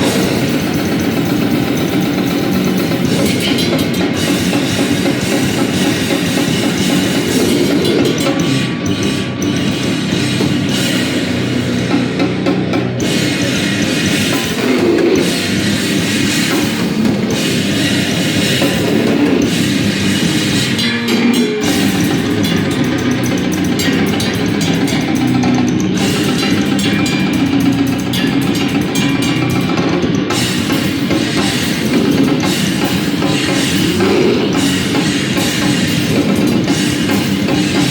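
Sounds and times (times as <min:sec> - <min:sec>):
heavy band playing loud: 0:00.0 - 0:37.9.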